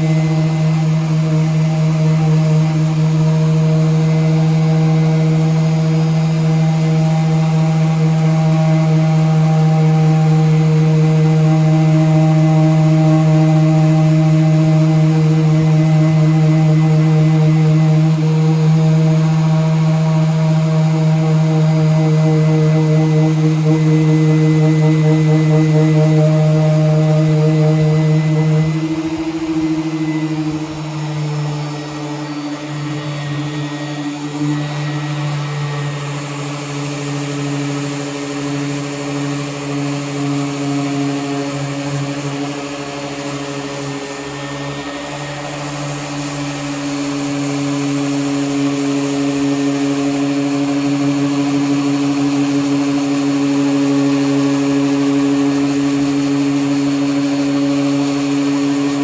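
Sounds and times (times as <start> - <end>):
power sander humming: 0.0 - 59.0.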